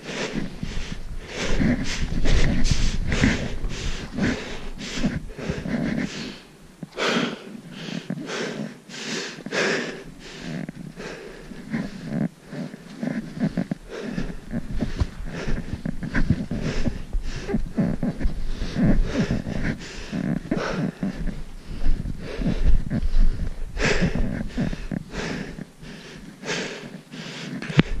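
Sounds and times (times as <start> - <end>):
loud breathing: 0.0 - 28.0.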